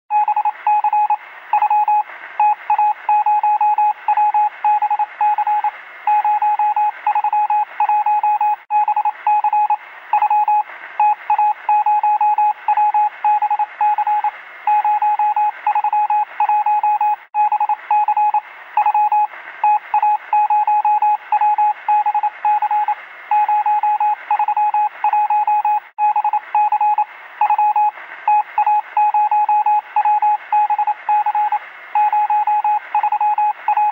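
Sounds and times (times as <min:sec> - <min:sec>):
morse code beeps: 0:00.1 - 0:33.9.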